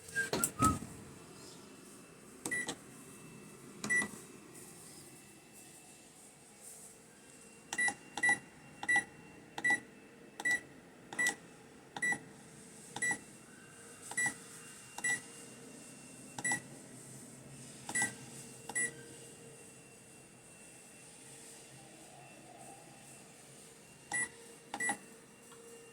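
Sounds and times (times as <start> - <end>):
washing machine beeping: 0.0 - 4.5, 7.2 - 12.3, 13.0 - 15.5, 16.1 - 17.0, 17.8 - 25.9.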